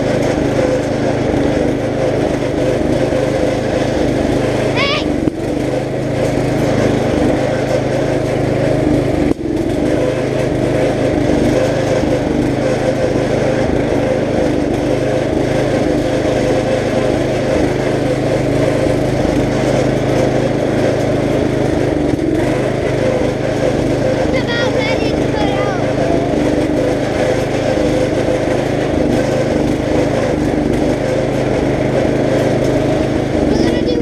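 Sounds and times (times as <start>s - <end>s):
riding lawn mower engine: 0.0s - 34.0s.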